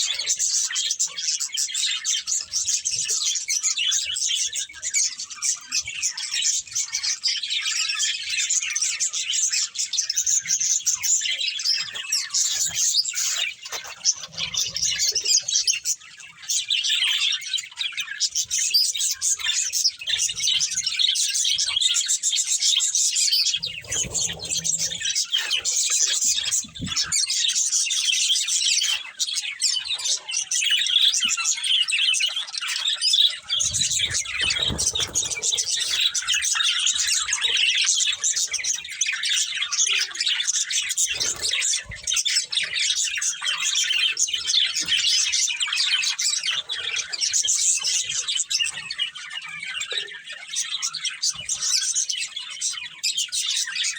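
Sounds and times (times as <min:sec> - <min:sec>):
budgerigars chirping and chattering: 0:00.0 - 0:53.9.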